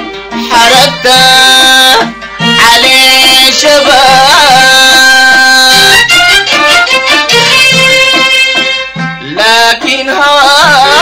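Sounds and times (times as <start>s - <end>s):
string ensemble playing: 0.0s - 11.0s.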